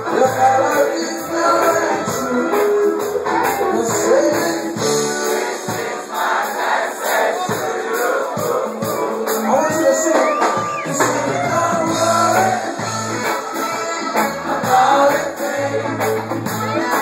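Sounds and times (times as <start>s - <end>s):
live reggae band playing: 0.0s - 17.0s
voices singing: 0.0s - 17.0s.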